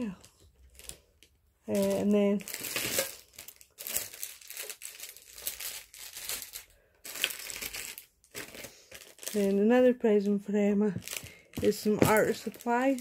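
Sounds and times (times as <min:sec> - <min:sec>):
packaging rustling and crinkling: 0:00.0 - 0:09.8, 0:10.9 - 0:13.0.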